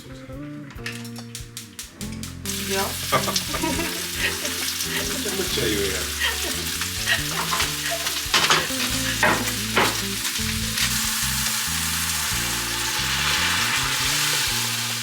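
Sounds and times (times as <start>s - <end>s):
food sizzling in a frying pan: 0.8s - 15.0s
utensil scraping a pan: 2.5s - 15.0s.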